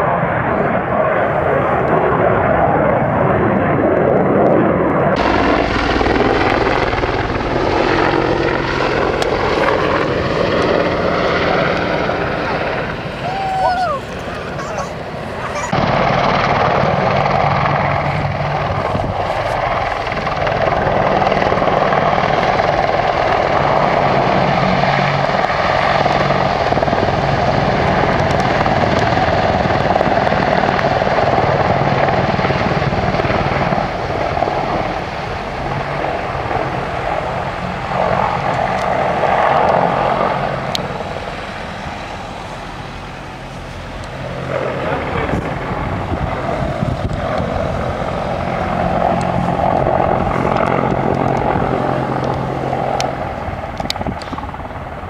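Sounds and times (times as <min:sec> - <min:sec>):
helicopter rotors beating: 0:00.0 - 0:55.0.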